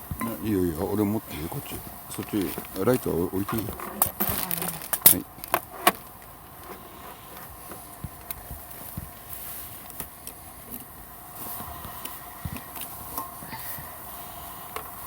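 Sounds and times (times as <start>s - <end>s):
faint background drone: 0.0s - 15.0s
light clicks and taps of gear: 1.7s - 14.0s.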